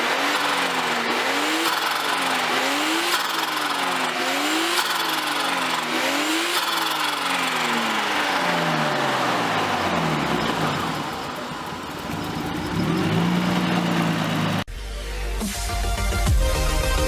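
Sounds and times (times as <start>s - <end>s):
turbocharged engine revving: 0.0s - 14.7s.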